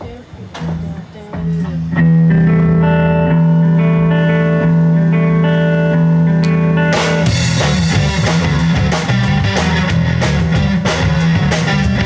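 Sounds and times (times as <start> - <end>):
live rock band playing: 0.7 - 12.0
distorted guitar and bass chord: 1.4 - 12.0.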